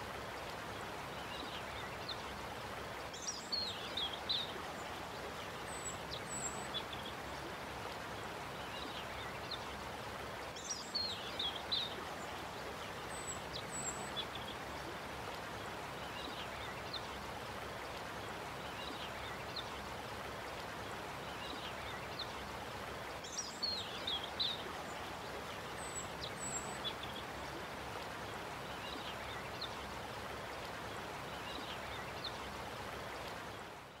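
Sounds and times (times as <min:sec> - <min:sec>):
stream running water: 0:00.0 - 0:34.0.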